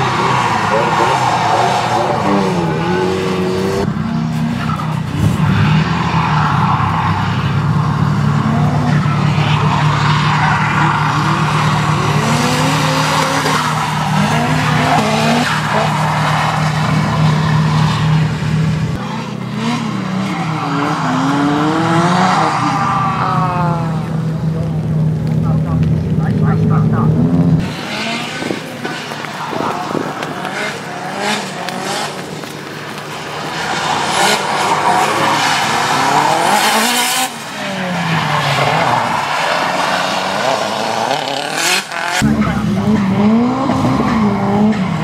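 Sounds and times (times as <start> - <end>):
car engines revving: 0.0 - 45.0
tyre noise: 0.0 - 45.0.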